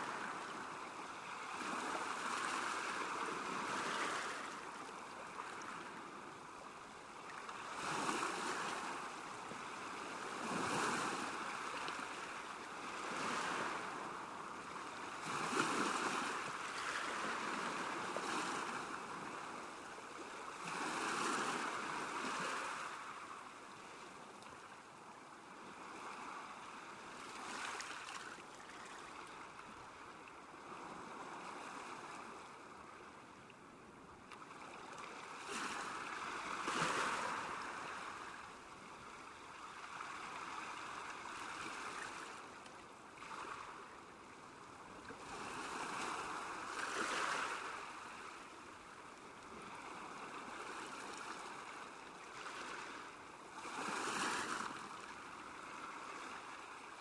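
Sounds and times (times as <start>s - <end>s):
small waves lapping: 0.0s - 33.4s, 34.2s - 57.0s.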